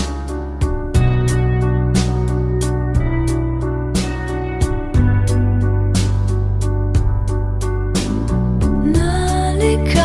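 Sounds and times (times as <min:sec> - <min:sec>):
slow pop ballad with band: 0:00.0 - 0:10.0.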